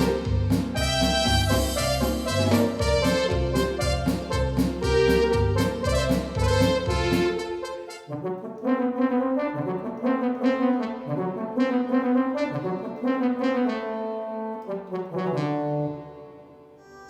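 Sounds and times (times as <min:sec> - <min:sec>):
brass-like synthesizer melody: 0:00.0 - 0:16.8.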